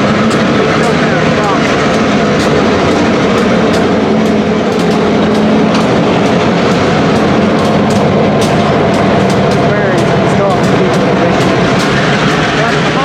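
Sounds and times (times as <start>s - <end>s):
freight cars rumbling on rails: 0.0s - 13.0s
wheel clicks on rails: 0.0s - 13.0s.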